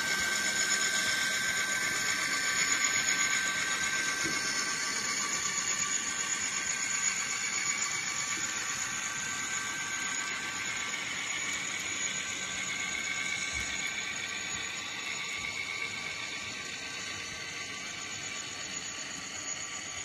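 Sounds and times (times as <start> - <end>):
diesel engine sound through small speaker: 0.0 - 20.0.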